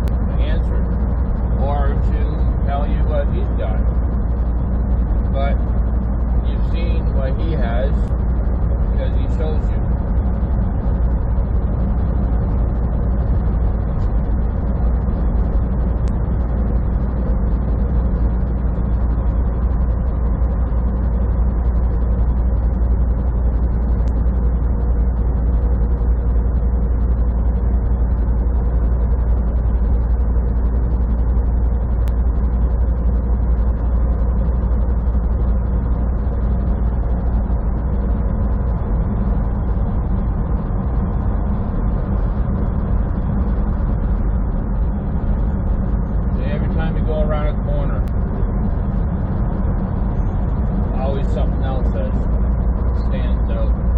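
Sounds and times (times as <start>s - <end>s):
truck engine drone: 0.0s - 53.9s
tyre and road noise: 0.0s - 53.9s.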